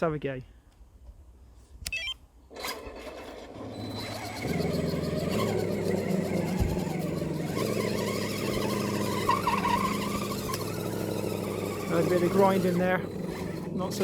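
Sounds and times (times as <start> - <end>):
electric motor and drivetrain whining: 1.9 - 14.0.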